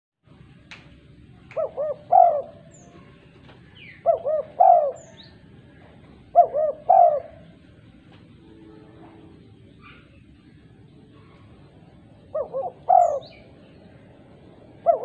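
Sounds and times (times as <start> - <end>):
dove cooing: 1.6 - 10.3, 11.2 - 15.0.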